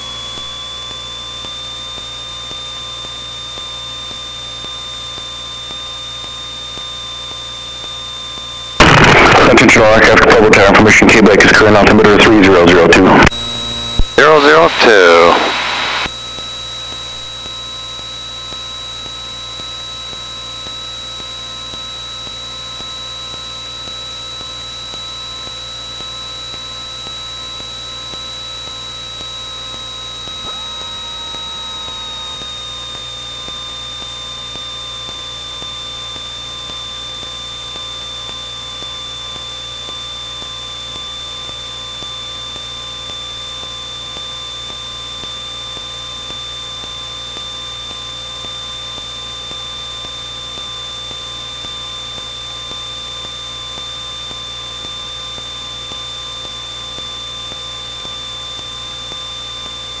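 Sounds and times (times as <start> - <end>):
airplane engine droning in cabin: 0.0 - 53.4.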